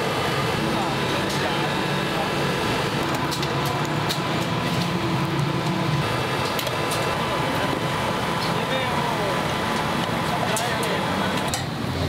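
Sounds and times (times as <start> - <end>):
traffic-like hum: 0.0 - 12.0.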